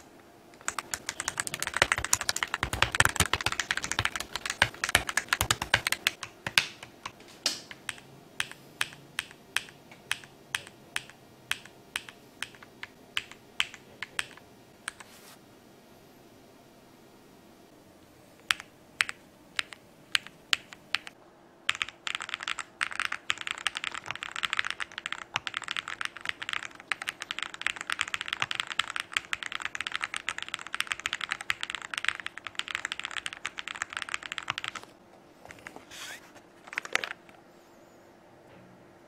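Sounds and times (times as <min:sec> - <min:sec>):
mechanical keyboard typing: 0:00.6 - 0:15.0, 0:18.5 - 0:34.9, 0:36.7 - 0:37.2.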